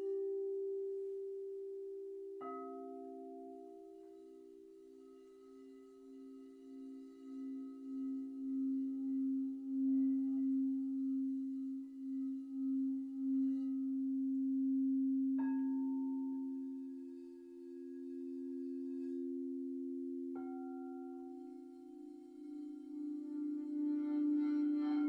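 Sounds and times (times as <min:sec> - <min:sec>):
singing bowls ringing: 0:02.4 - 0:25.0.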